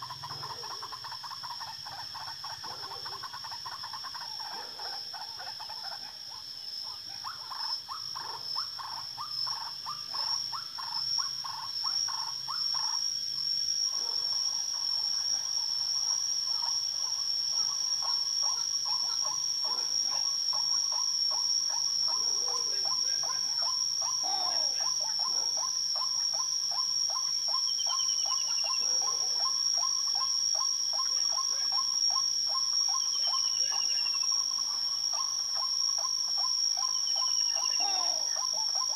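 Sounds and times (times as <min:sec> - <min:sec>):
insects shrilling: 0:00.0 - 0:38.9.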